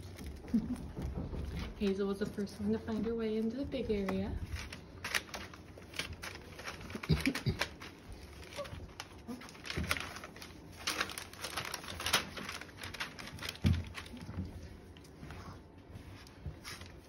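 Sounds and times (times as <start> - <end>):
puppy paws pattering on newspaper: 0.0 - 17.0.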